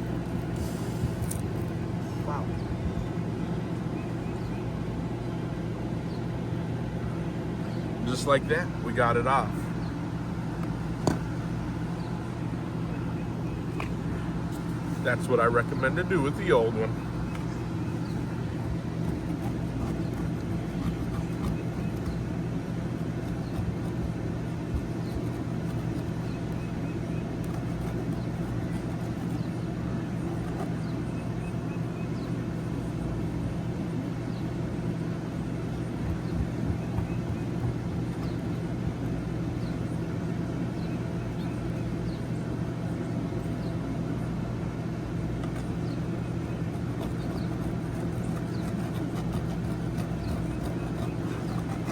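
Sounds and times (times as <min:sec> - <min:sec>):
low mechanical hum: 0:00.0 - 0:51.9.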